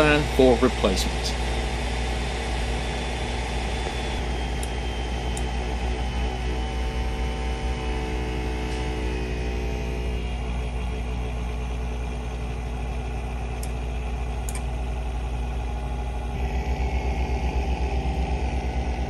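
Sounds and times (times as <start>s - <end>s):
laptop cooling fan rumbling: 0.0s - 19.0s.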